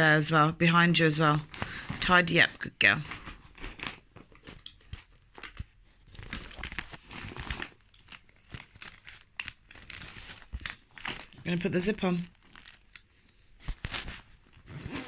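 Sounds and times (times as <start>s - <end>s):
pencil case rustling: 1.5s - 15.0s.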